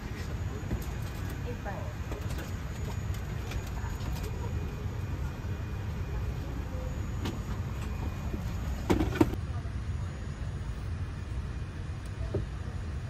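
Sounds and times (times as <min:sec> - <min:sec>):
airliner cabin ventilation rumble: 0:00.0 - 0:13.0.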